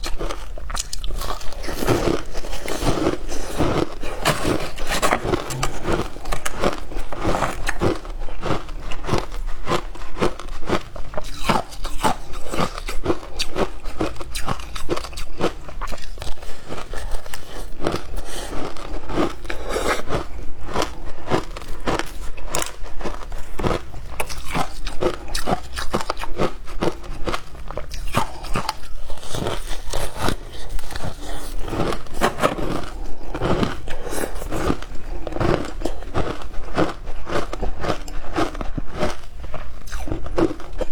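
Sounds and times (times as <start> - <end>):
crunchy ice being chewed: 0.0 - 40.9.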